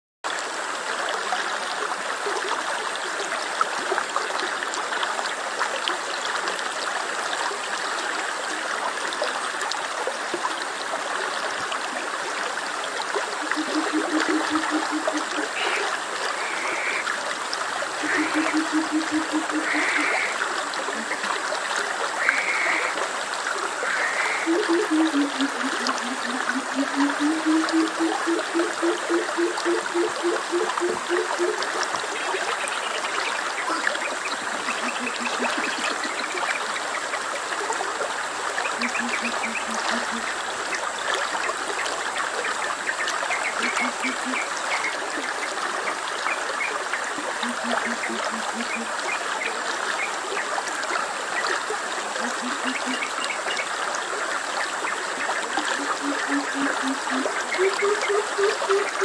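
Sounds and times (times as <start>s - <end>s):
stream of water running: 0.2s - 59.0s.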